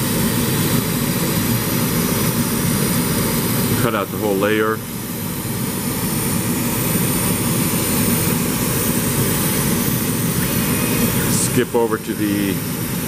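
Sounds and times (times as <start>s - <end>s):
laser cutter machine drone: 0.0s - 13.0s.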